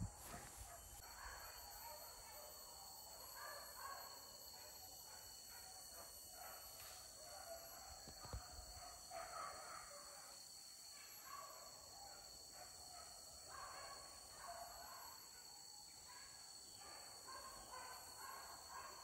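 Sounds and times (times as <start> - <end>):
dogs barking and baying: 0.2 - 10.4, 11.0 - 19.0.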